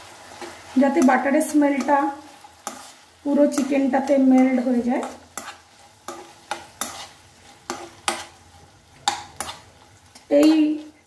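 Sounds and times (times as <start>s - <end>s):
faint sizzle: 0.0s - 11.0s
spatula scraping pan: 0.0s - 11.0s.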